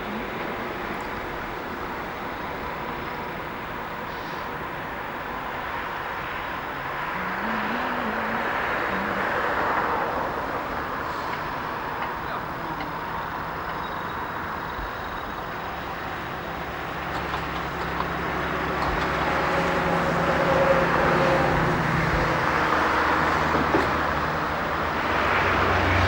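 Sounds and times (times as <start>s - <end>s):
diesel train engine humming: 0.0s - 26.0s.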